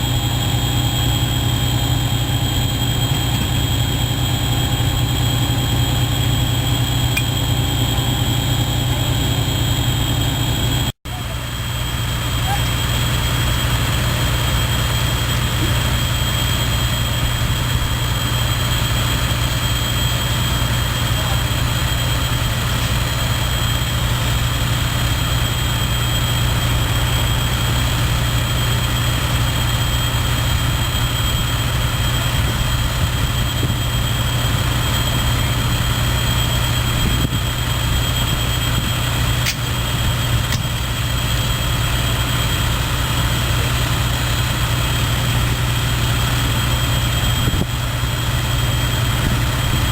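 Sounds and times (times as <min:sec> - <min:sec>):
heavy engine idling: 0:00.0 - 0:49.9.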